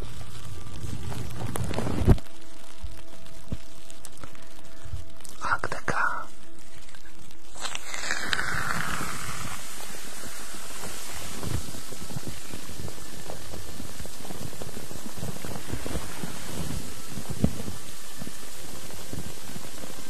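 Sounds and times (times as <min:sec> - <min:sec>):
crackling hiss: 0:00.0 - 0:20.0.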